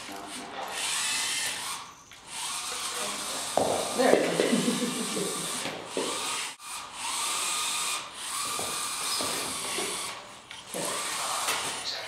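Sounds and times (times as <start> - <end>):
robot motors whining: 0.0 - 4.1, 4.8 - 12.0.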